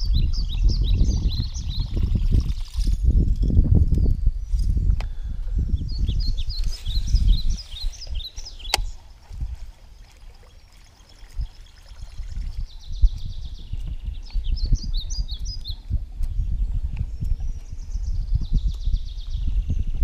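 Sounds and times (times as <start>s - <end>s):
birds chirping: 0.0s - 3.2s, 4.0s - 20.0s.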